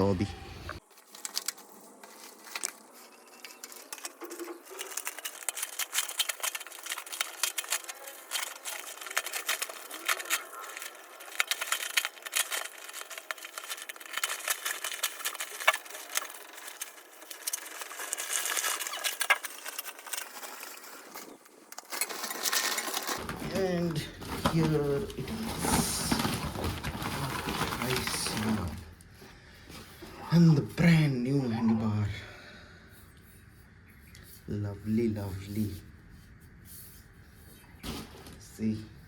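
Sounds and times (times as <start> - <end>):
cardboard and wrapping rustling: 0.0 - 30.4, 35.4 - 39.0.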